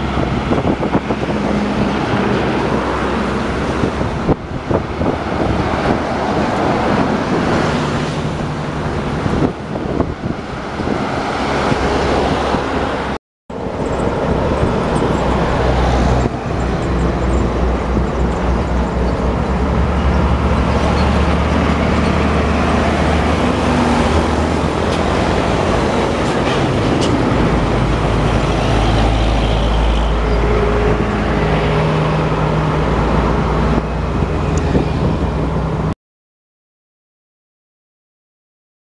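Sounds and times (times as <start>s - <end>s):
diesel trucks passing: 0.0s - 36.0s.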